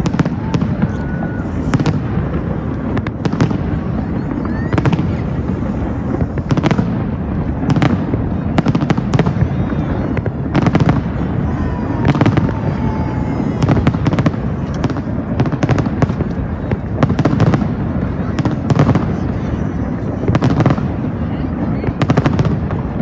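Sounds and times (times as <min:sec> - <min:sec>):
firework bangs and crackling: 0:00.0 - 0:23.0.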